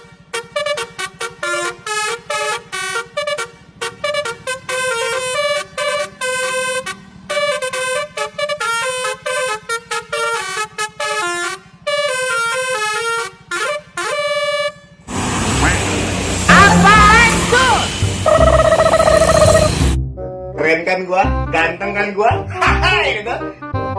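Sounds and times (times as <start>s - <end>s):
multi-tone bus horn tune: 0.0s - 15.9s, 16.5s - 20.0s.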